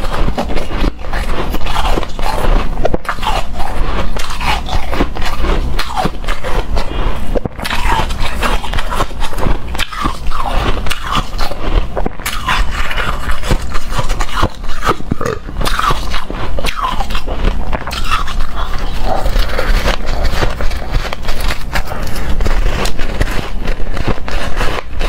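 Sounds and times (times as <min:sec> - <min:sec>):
ice being chewed with crunches: 0:00.0 - 0:25.0.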